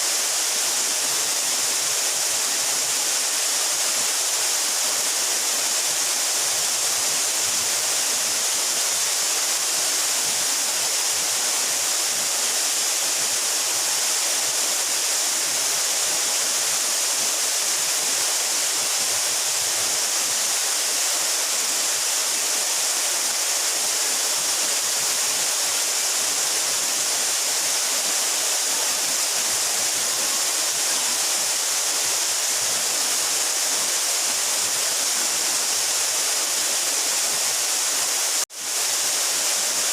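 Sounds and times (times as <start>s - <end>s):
waterfall rushing onto rock: 0.0s - 39.9s.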